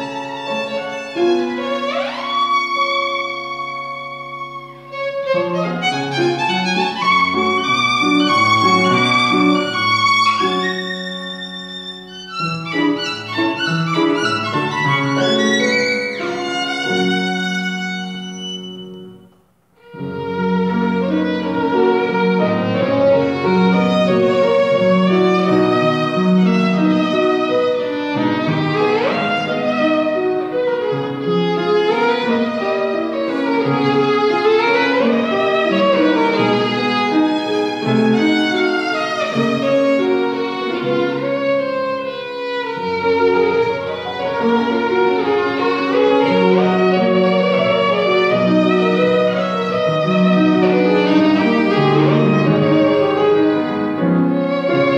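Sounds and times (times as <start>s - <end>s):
piano: 0.0s - 54.9s
violin: 0.0s - 54.9s.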